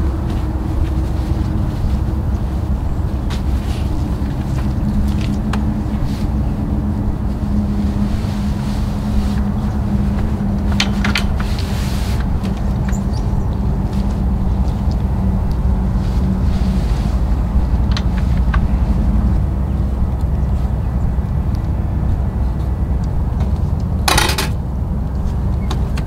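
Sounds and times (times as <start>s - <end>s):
awning fabric clicks and rustles: 0.0s - 21.0s
engine rumbling: 0.0s - 26.0s.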